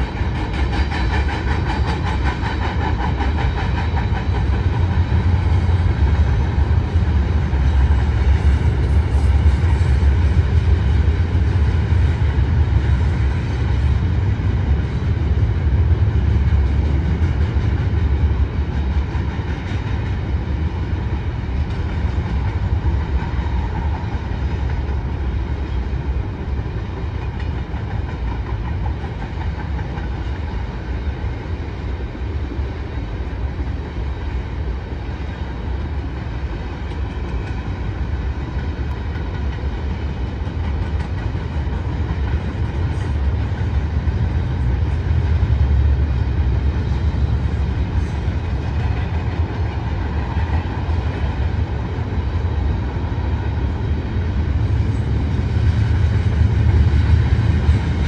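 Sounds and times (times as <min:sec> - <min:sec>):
freight train rolling on rails: 0:00.0 - 0:58.0.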